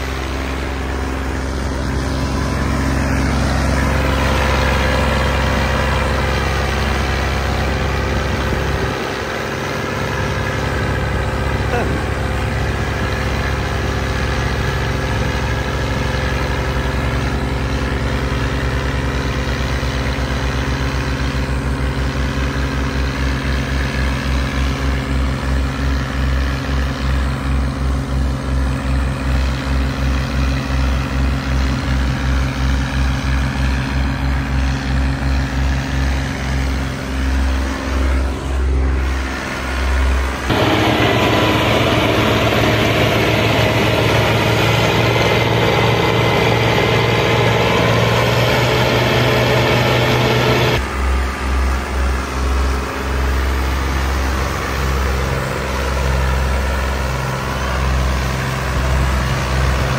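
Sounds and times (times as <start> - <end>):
louder steady engine: 0.0 - 59.9
tractor diesel engine throbbing: 0.0 - 59.9.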